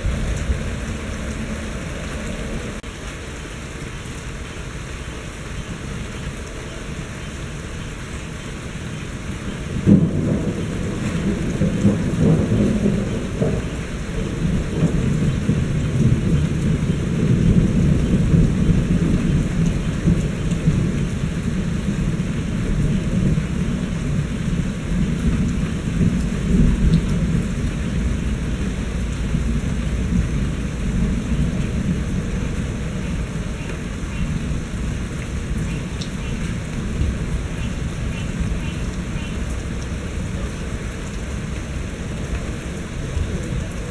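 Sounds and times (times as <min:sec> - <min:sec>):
thunder rumbling: 0:00.0 - 0:02.9, 0:09.6 - 0:43.9
steady rain falling: 0:00.0 - 0:43.9.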